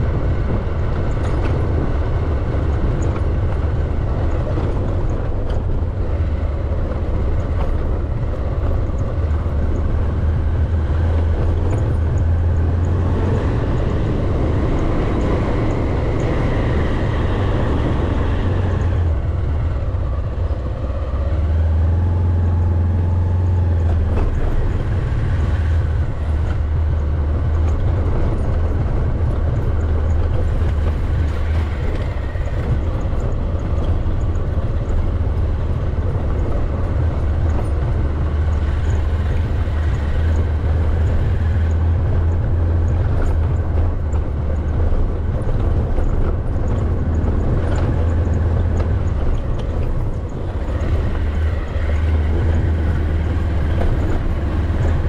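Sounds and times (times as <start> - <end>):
vehicle rumbling along road: 0.0 - 55.0.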